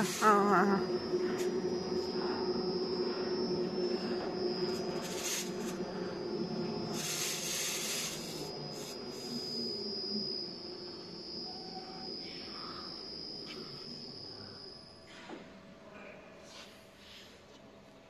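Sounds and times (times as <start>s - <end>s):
belt sander mechanical drone: 0.0s - 15.0s
low hum: 0.0s - 16.4s.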